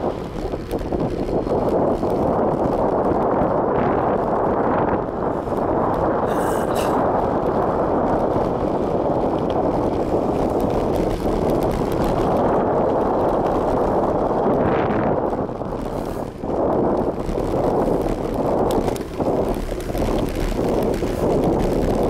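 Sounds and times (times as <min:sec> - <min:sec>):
wind roaring over microphone: 0:00.0 - 0:22.0.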